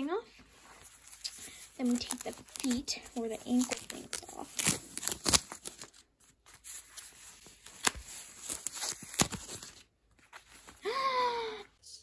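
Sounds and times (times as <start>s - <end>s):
packaging rustling and tearing: 0.6s - 10.9s.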